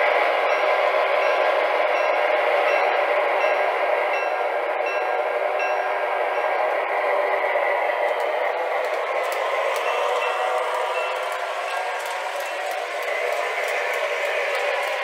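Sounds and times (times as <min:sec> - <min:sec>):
model train motor and wheels: 0:00.0 - 0:15.0.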